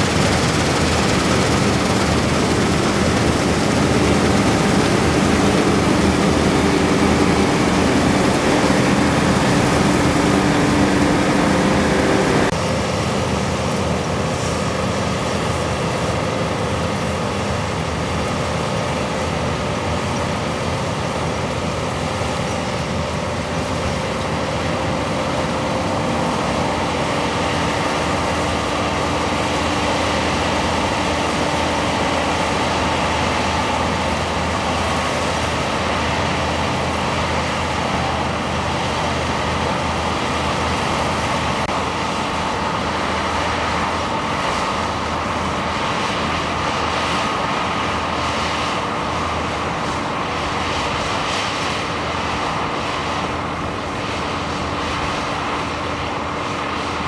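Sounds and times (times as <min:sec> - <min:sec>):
combine harvester drone: 0:00.0 - 0:57.0
faint machinery whines: 0:00.0 - 0:57.0.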